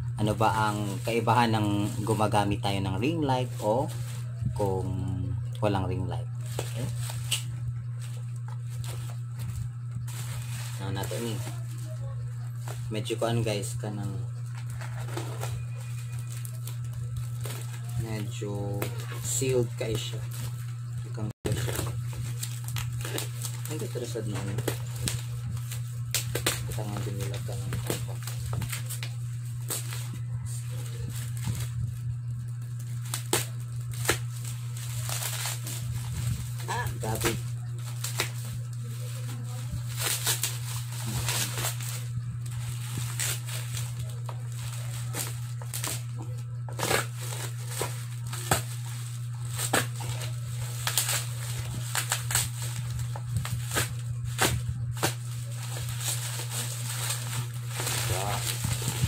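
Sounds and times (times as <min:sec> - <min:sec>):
plastic packaging crackling: 0:00.0 - 0:59.0
steady low hum: 0:00.0 - 0:59.0.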